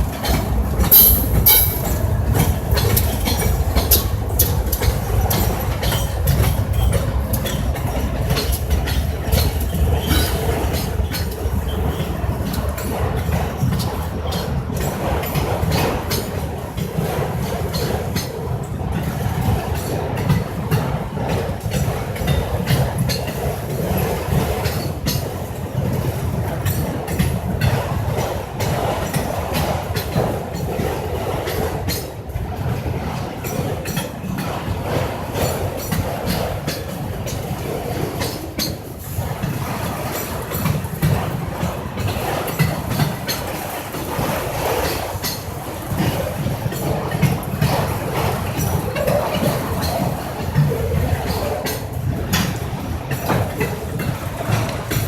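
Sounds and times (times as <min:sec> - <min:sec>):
freight train rumbling past: 0:00.0 - 0:55.0
wheel clacks over rail joints: 0:00.0 - 0:55.0.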